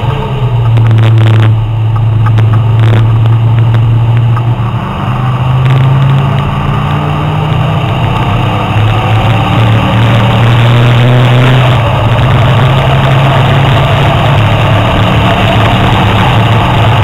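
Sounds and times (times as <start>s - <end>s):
car engine drone from cabin: 0.0s - 17.0s
wind and road noise: 0.0s - 17.0s.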